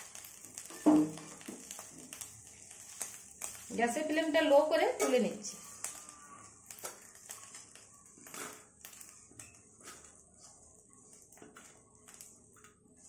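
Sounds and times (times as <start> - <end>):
spatula scraping fried prawns: 0.1 - 12.4.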